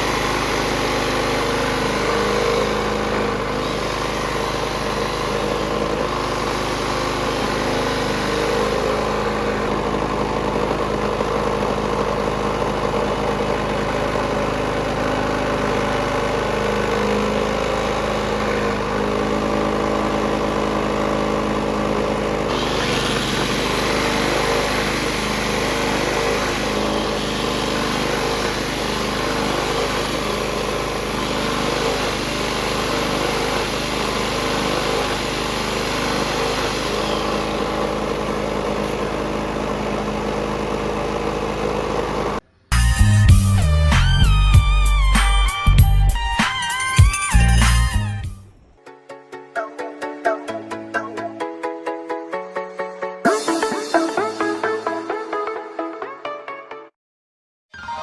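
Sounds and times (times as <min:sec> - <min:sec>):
small petrol engine running: 0:00.0 - 0:48.8.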